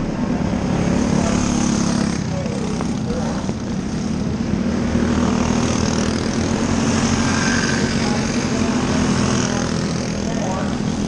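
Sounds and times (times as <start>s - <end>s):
racing car engines buzzing: 0.0s - 11.0s.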